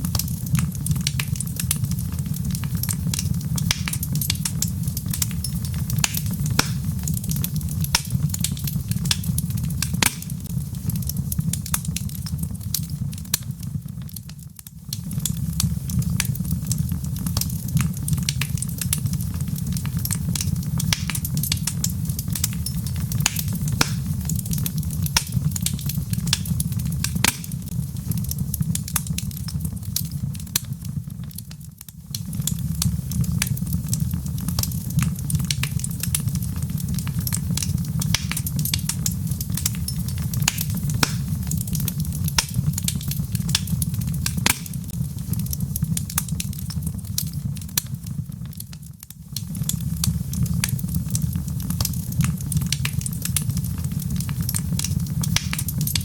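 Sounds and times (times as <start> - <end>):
logs crackling and popping: 0.0 - 56.0
low rumble of fire: 0.0 - 56.0.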